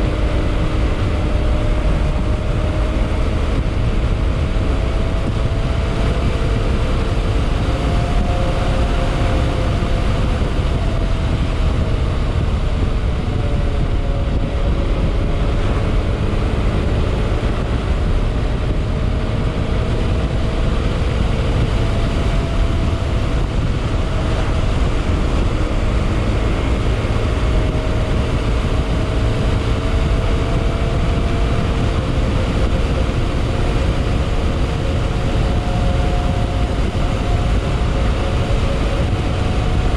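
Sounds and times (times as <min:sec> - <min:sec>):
steady rush of noise: 0:00.0 - 0:39.9.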